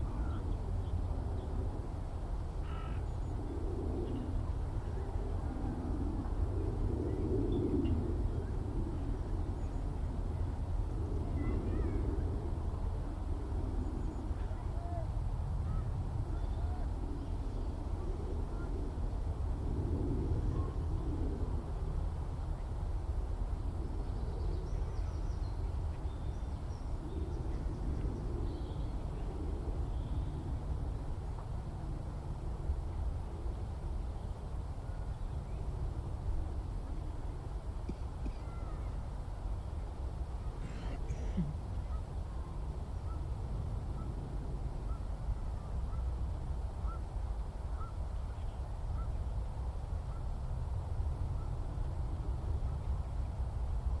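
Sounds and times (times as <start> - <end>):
steady low rumble: 0.0 - 49.4.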